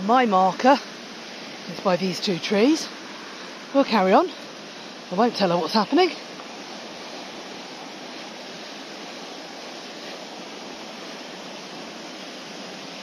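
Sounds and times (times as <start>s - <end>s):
river rushing over boulders: 0.0s - 13.0s.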